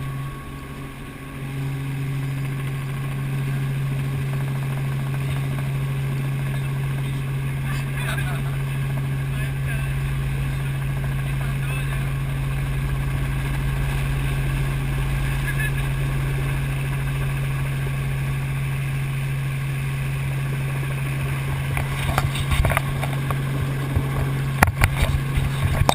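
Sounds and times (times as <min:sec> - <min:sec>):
helicopter rotor and engine drone: 0:00.0 - 0:25.9
low hum: 0:00.0 - 0:25.9.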